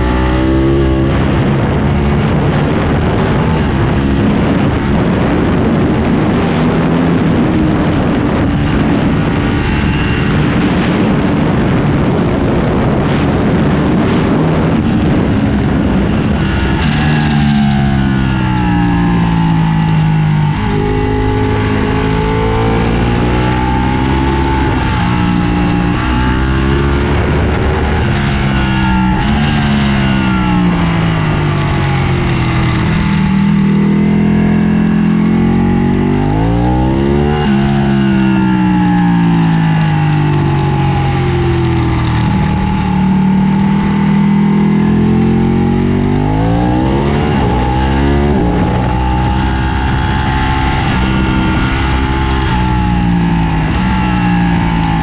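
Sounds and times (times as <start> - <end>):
dense rushing noise: 0.0 - 55.0
motorcycle engine revving: 0.0 - 55.0.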